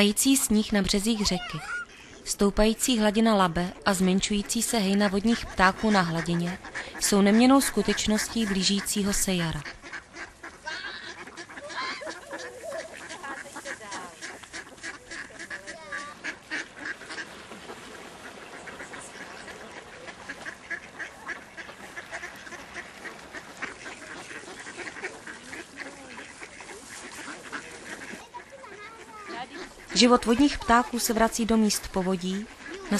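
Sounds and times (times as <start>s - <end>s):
ducks quacking: 0.0s - 32.9s.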